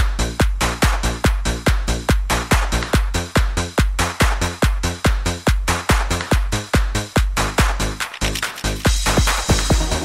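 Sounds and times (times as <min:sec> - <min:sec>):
deep kick drum: 0:00.0 - 0:08.0, 0:08.9 - 0:10.0.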